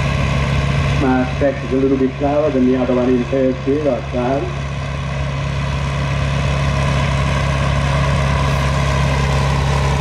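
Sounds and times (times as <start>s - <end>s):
tractor engine running under load: 0.0s - 10.0s.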